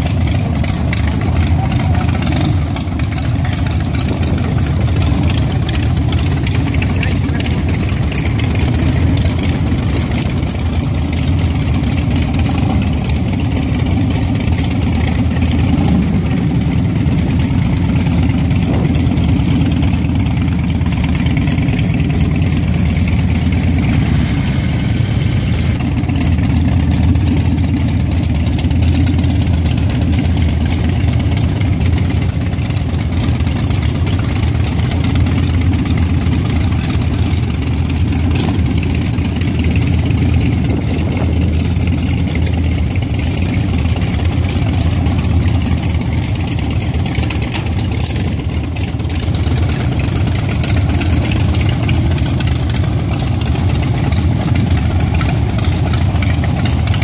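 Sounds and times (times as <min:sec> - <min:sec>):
motorcycle engines idling: 0:00.0 - 0:57.0.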